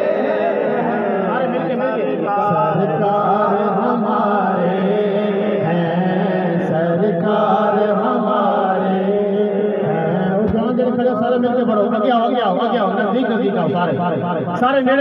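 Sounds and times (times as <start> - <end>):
man chanting over loudspeaker: 0.0 - 15.0.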